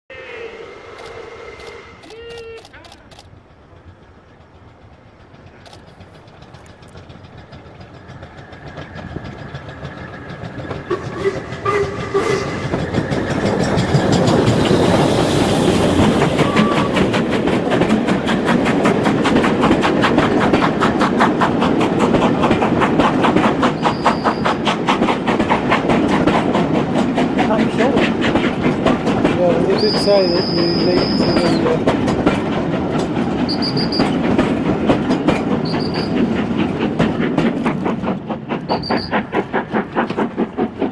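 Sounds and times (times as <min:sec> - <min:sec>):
steam train passing: 0:00.1 - 0:40.9
wheels clacking over rail joints: 0:03.3 - 0:40.9.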